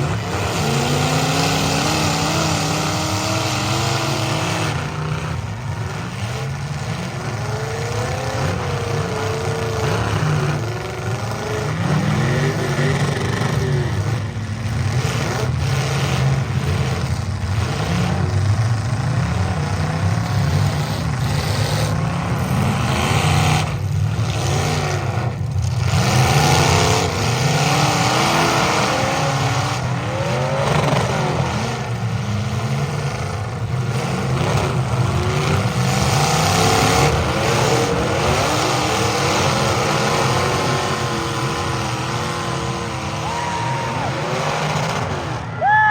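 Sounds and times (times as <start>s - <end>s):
several car engines revving: 0.0s - 45.9s.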